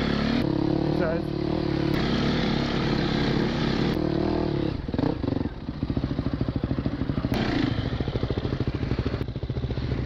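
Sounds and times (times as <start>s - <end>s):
dirt bike engine: 0.0s - 10.0s.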